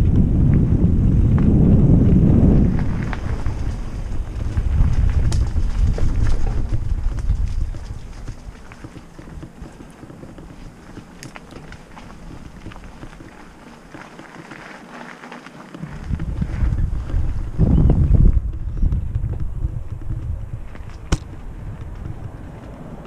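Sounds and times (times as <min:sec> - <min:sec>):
wind buffeting microphone: 0:00.0 - 0:14.7, 0:15.7 - 0:23.0
bike clicks and rattles on trail: 0:00.0 - 0:23.0.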